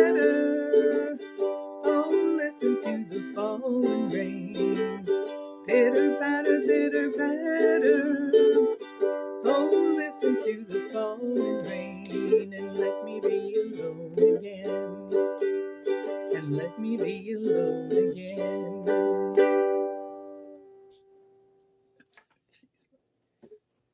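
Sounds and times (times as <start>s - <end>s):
ukulele strumming: 0.0s - 21.4s.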